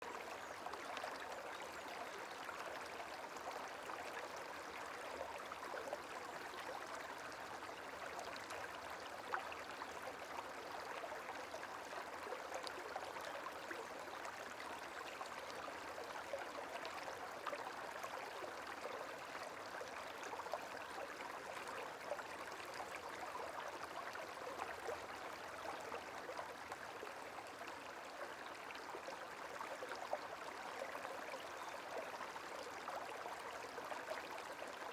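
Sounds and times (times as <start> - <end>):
gently flowing water: 0.0 - 34.9.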